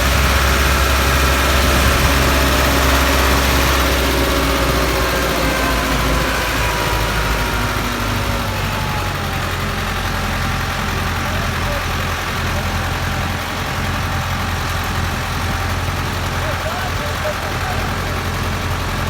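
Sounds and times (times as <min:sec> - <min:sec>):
tractor diesel engine rumbling: 0:00.0 - 0:19.0.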